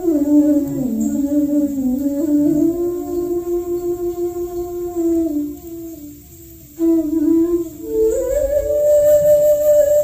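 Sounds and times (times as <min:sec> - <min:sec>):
slow melody of held notes: 0:00.0 - 0:10.0.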